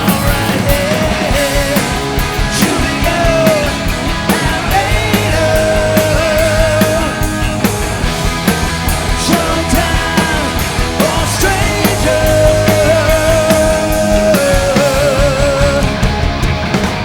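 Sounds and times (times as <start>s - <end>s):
drums hitting: 0.0s - 17.0s
hard rock band playing live: 0.0s - 17.0s.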